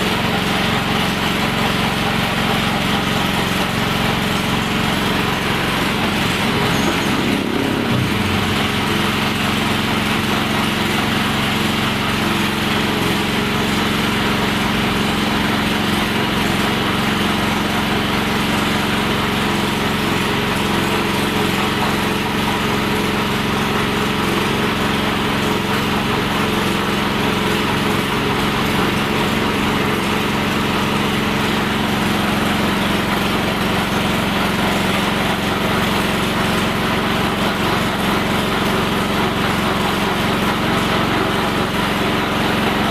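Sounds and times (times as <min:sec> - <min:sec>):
pellet mill humming: 0:00.0 - 0:42.9.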